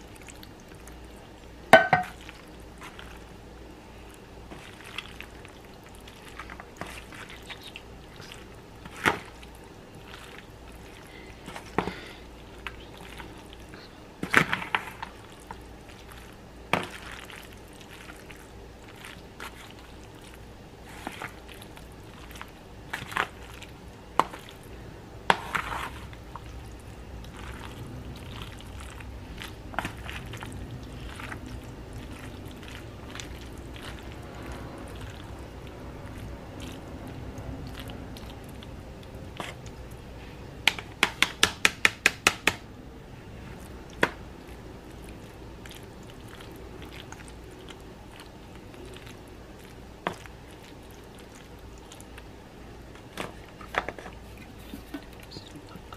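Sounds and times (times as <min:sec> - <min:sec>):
wet squishy stirring: 0:00.0 - 0:55.9.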